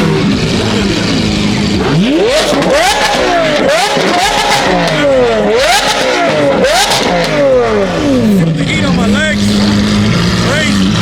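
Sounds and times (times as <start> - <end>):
car engine revving: 0.0 - 11.0
exhaust pops and crackles: 0.0 - 11.0.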